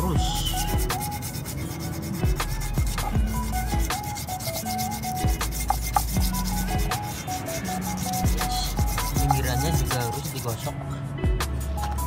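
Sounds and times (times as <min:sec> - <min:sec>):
sandpaper scraping metal mould: 0:00.3 - 0:10.7.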